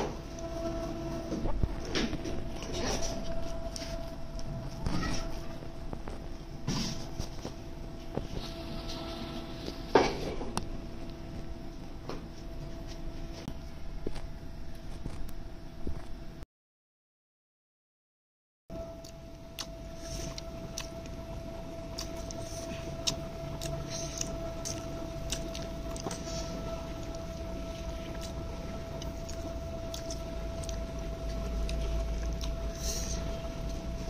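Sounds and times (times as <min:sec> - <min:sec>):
steady hum with high tone: 0:00.0 - 0:16.4, 0:18.7 - 0:34.0.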